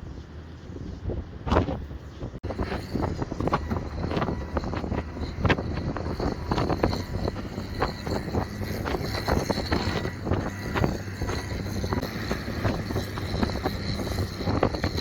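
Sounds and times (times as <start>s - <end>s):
engine running: 0.0s - 15.0s
wind buffeting microphone: 0.0s - 15.0s.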